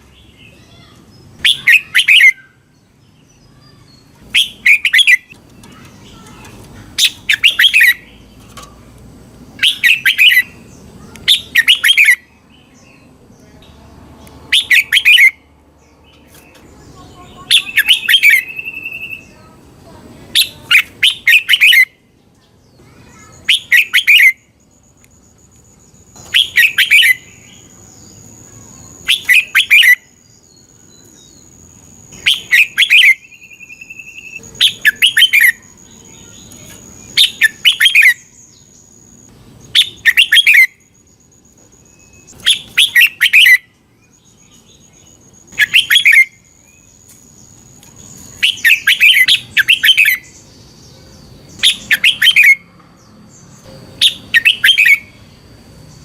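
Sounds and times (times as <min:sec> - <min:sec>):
bird singing bubbling phrases: 0:00.0 - 0:08.4, 0:09.6 - 0:13.7, 0:14.5 - 0:19.6, 0:20.2 - 0:24.7, 0:25.9 - 0:40.9, 0:41.8 - 0:46.9, 0:48.0 - 0:52.8, 0:54.0 - 0:55.6.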